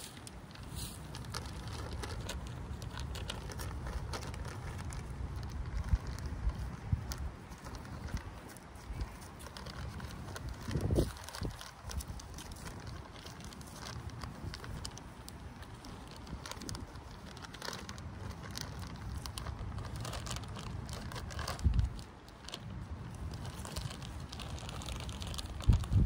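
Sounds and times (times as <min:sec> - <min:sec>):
plastic bag crinkling: 0:00.0 - 0:26.0
wind rumble on microphone: 0:01.2 - 0:26.0.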